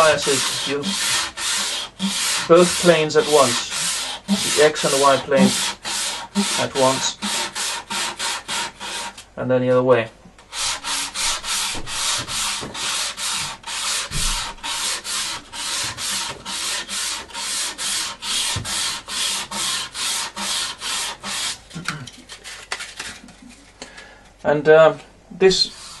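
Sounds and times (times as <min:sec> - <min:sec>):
hand sanding with sandpaper: 0:00.0 - 0:09.2, 0:10.5 - 0:23.8, 0:25.5 - 0:26.0.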